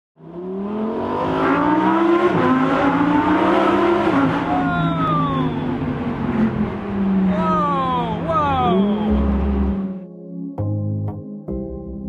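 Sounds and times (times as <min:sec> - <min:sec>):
sports car engine accelerating: 0:00.2 - 0:10.0.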